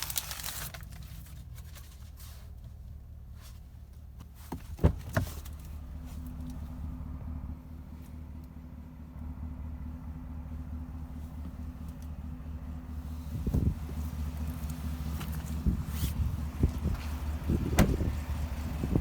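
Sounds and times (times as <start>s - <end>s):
truck engine idling: 0.2s - 19.0s.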